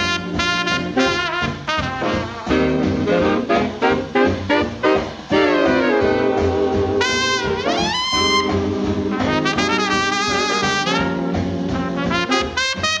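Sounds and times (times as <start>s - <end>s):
horn sliding upward in pitch: 0.0s - 13.0s
jazz music with brass horns: 0.0s - 13.0s.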